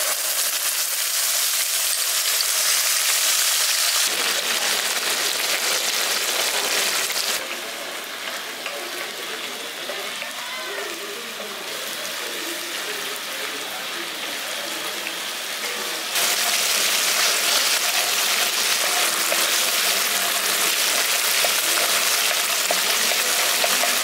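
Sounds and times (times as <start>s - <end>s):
paste frying in hot oil: 0.0s - 24.0s.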